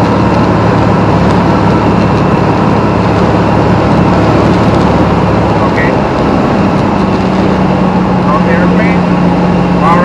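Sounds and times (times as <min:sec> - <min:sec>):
aircraft engine drone: 0:00.0 - 0:10.0
dense rushing noise: 0:00.0 - 0:10.0.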